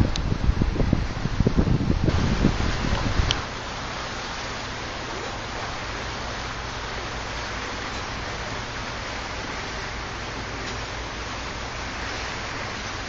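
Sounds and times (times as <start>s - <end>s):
low engine hum: 0.0s - 13.0s
water rushing along boat hull: 0.0s - 13.0s.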